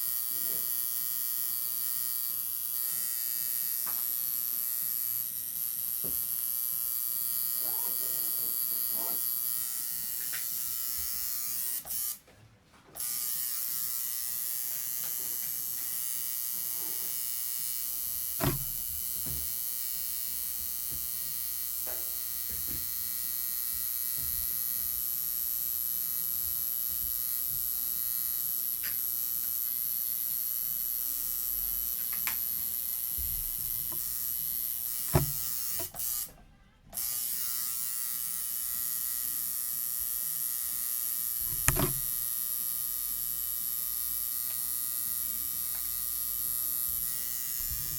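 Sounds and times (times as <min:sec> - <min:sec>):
tattoo machine buzzing: 0:00.0 - 0:12.2, 0:13.0 - 0:47.9.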